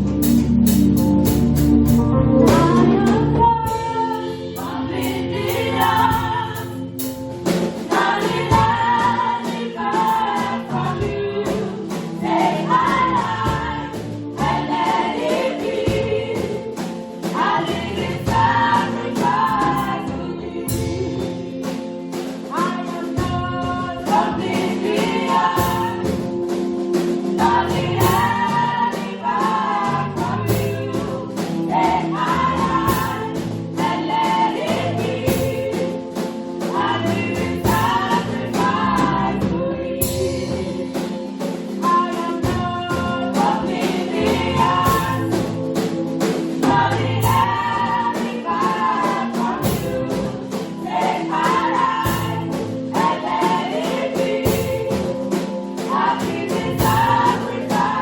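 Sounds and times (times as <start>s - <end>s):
choir singing gospel song: 0.0s - 58.0s
held instrumental chords: 0.0s - 58.0s
steady percussive beat: 0.0s - 58.0s.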